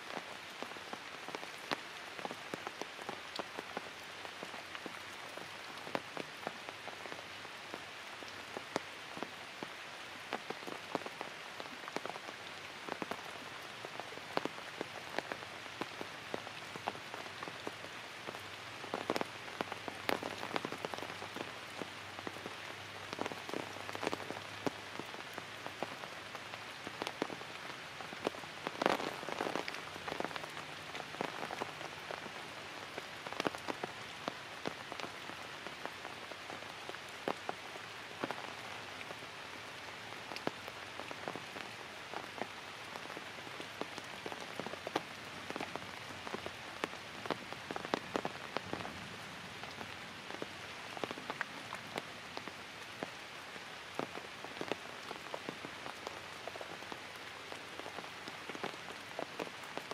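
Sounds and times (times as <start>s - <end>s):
light rain on leaves: 0.0s - 59.9s
raindrops ticking: 0.0s - 59.9s.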